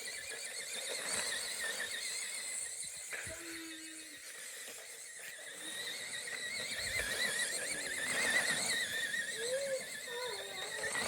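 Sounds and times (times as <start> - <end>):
remote-control car motor whining: 0.0 - 11.0.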